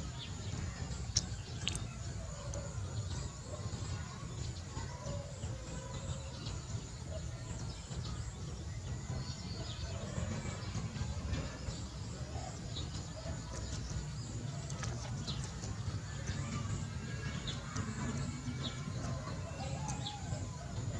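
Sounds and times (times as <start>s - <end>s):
faint chirps and ticks: 0.0s - 20.9s.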